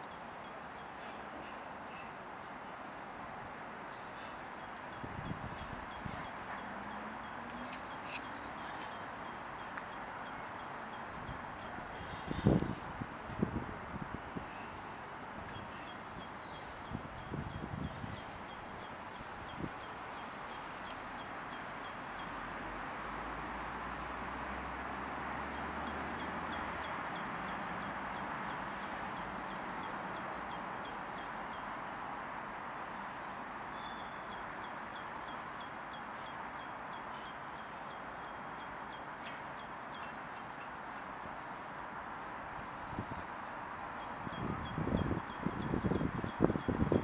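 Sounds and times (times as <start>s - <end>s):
distant traffic hum: 0.0s - 47.0s.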